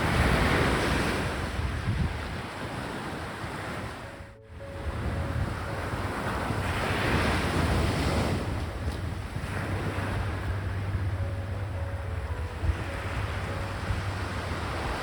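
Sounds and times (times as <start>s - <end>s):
sea waves crashing on shore: 0.0s - 15.0s
wind buffeting microphone: 0.0s - 15.0s.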